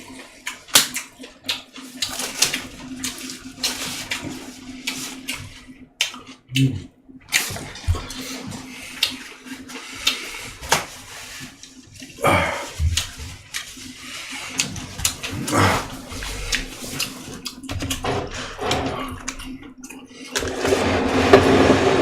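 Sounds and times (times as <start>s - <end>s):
wet chewing and smacking: 0.0s - 12.2s, 12.8s - 18.0s, 19.1s - 20.4s.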